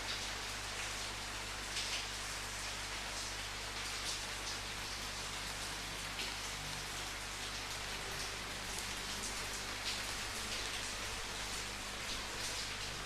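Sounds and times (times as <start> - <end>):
rain falling: 0.0 - 13.0
raindrops pattering: 0.0 - 13.0.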